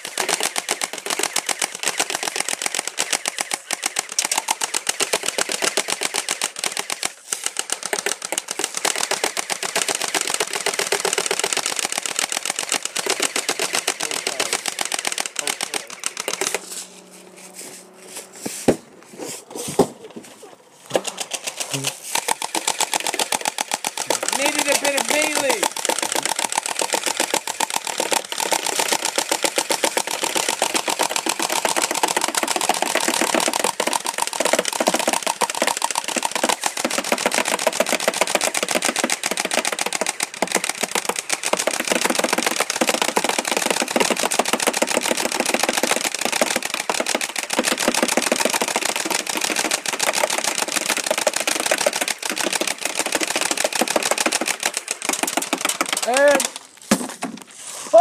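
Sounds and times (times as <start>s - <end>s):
airsoft rifle automatic fire: 0.0s - 16.9s, 20.9s - 56.6s.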